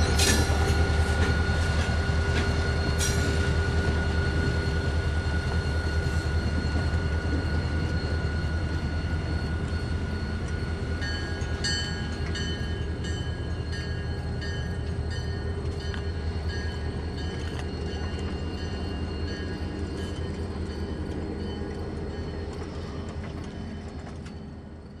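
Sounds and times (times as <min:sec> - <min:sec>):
diesel locomotive engine rumbling: 0:00.0 - 0:25.0.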